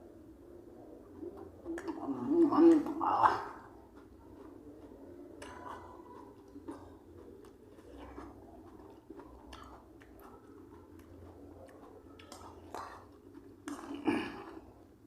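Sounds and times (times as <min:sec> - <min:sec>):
person chewing food: 0:00.0 - 0:15.0
mouth clicks: 0:01.0 - 0:15.0.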